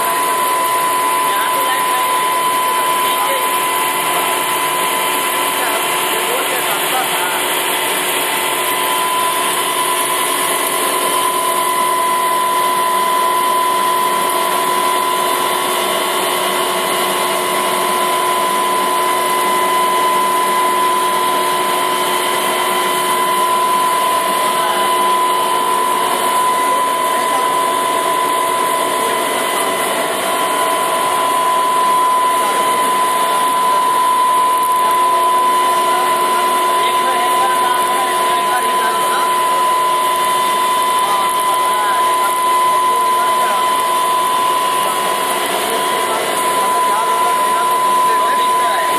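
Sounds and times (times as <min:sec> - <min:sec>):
machine humming with high whine: 0:00.0 - 0:48.9.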